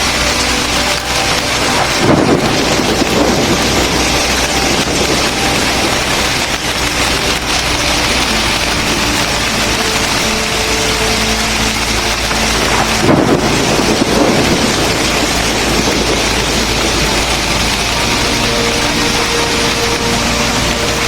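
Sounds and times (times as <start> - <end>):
hail and rain pelting: 0.0 - 21.0.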